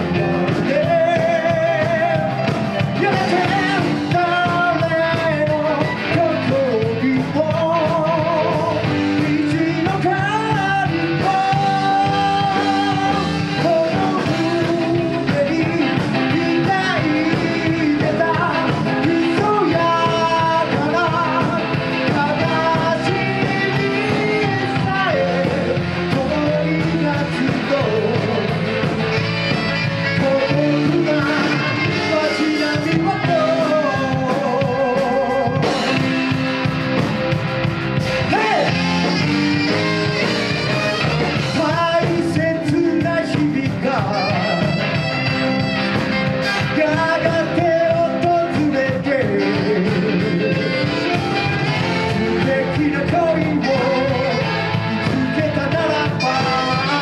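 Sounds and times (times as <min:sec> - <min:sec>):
person singing lead vocal: 0:00.0 - 0:57.0
rock band playing: 0:00.0 - 0:57.0.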